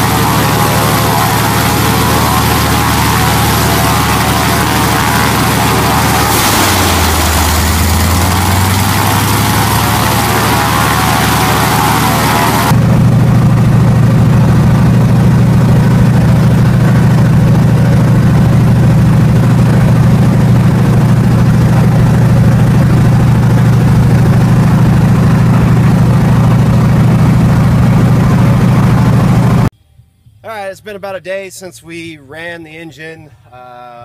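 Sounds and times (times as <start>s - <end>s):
radial aircraft engine running: 0.0s - 29.7s.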